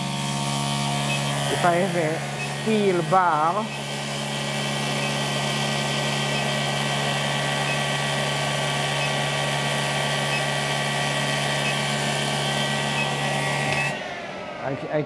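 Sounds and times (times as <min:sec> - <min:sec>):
induction heater electrical hum: 0:00.0 - 0:15.0.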